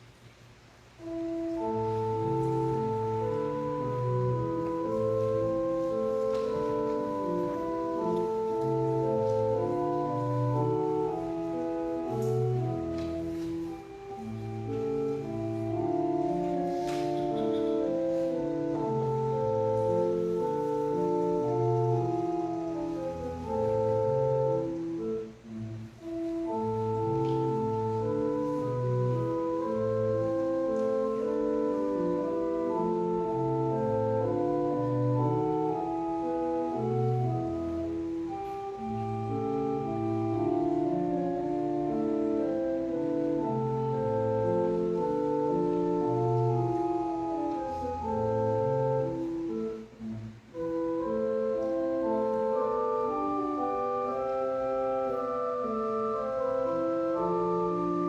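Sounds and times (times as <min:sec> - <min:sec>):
organ playing slow piece: 0:00.8 - 0:58.0.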